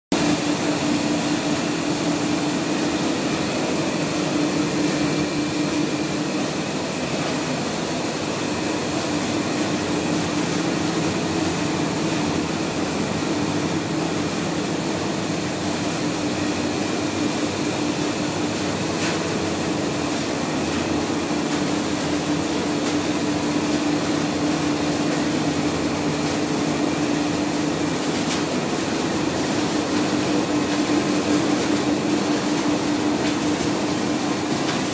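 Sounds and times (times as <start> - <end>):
printing press running: 0.1 - 34.9.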